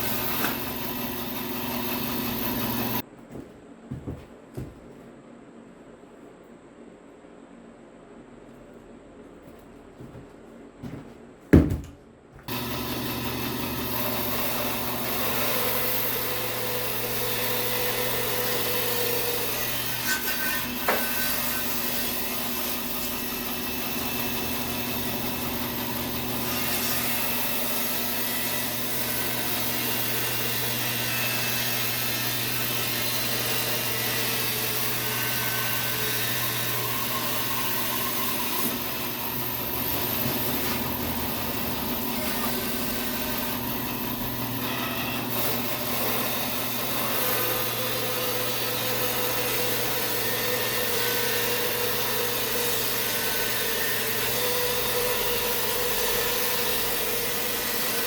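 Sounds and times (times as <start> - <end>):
bandsaw sawing a log: 0.0 - 3.0, 12.5 - 58.0.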